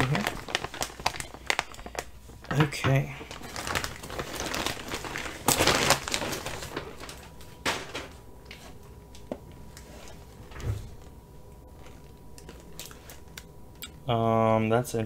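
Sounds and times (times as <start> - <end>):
plastic packaging crinkling: 0.0 - 11.1, 11.7 - 13.5.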